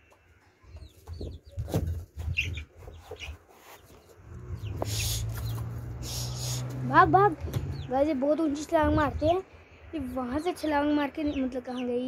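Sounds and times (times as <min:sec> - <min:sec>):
young chickens clucking: 0:00.0 - 0:09.4, 0:10.3 - 0:12.0.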